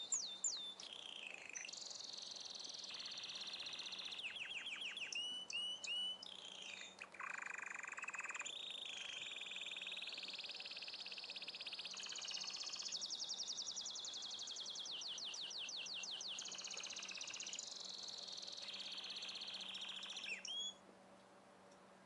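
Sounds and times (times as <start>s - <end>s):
songbird singing fast trills: 0.0s - 20.8s.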